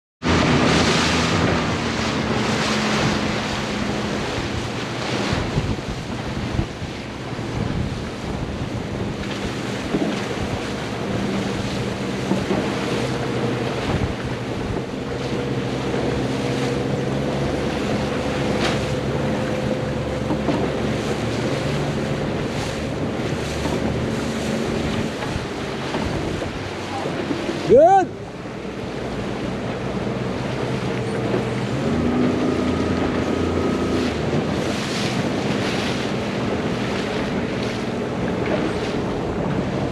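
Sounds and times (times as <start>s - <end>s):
low motor hum: 0.2s - 39.9s
water rushing past boat: 0.2s - 39.9s
wind buffeting microphone: 0.2s - 39.9s.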